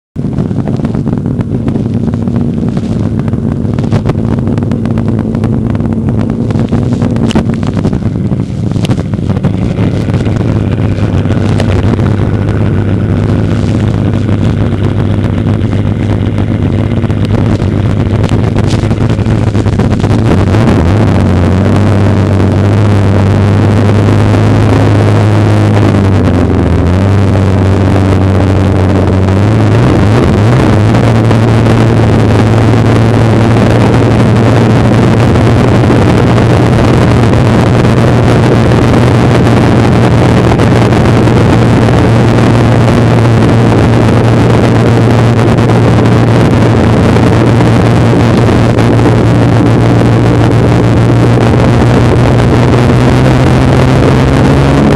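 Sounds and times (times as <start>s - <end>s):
snowmobile engine running: 0.0s - 54.9s
rushing noise: 0.2s - 54.9s.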